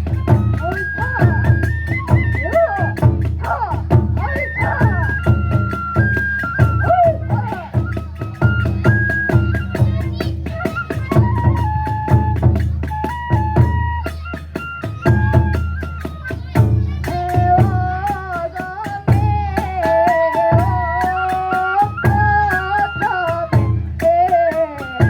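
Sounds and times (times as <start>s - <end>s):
bamboo flute melody: 0.0s - 25.0s
fast drum beats: 0.0s - 25.0s.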